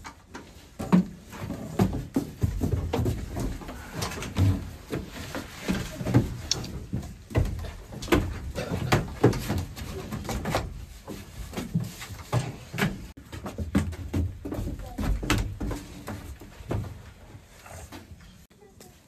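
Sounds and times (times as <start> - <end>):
knocks and clunks: 0.0 - 18.2
children's footfalls on bus steps: 0.0 - 19.0.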